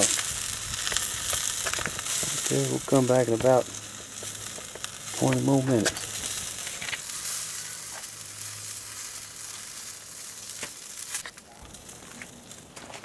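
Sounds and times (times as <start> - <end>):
meat sizzling over charcoal: 0.0 - 13.0.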